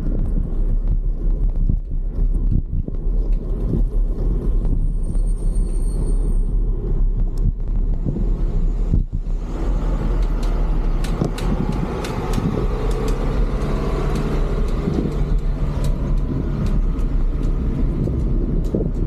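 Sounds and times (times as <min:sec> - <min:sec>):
sharp clicks and rattles: 0:00.0 - 0:05.6, 0:06.7 - 0:19.0
motor vehicle engine running: 0:00.0 - 0:19.0
wind rumble on microphone: 0:00.0 - 0:19.0.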